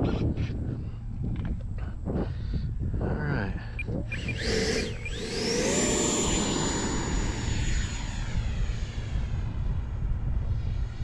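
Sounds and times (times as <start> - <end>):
electric ducted fan whine: 0.0 - 11.0
wind rumble on microphone: 0.0 - 11.0.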